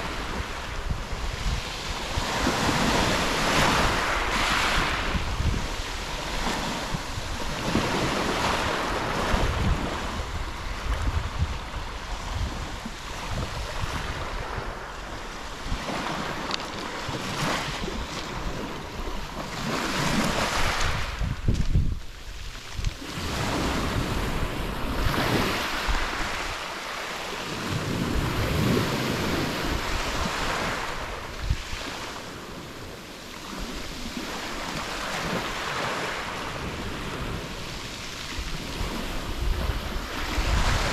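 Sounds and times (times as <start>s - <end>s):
waves breaking on pebble beach: 0.0s - 40.9s
wind rumbling on microphone: 0.0s - 40.9s.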